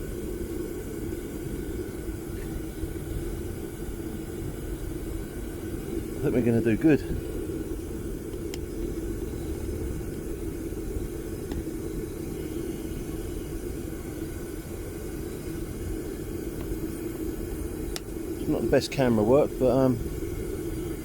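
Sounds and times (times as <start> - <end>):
gas furnace burner rushing: 0.0 - 21.0.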